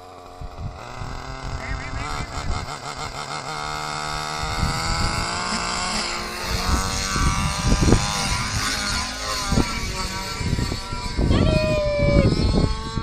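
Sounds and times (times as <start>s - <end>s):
rotor turning: 0.0s - 11.6s
model helicopter engine running: 0.0s - 13.0s
wind buffeting microphone: 0.2s - 13.0s.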